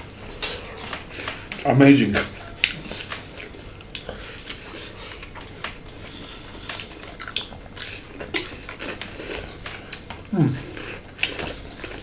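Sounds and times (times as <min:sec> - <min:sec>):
crisp lettuce being chewed: 0:00.2 - 0:12.0.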